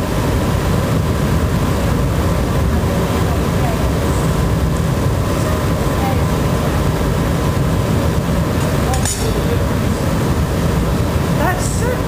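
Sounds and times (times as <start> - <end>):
gas furnaces roaring: 0.0 - 12.0.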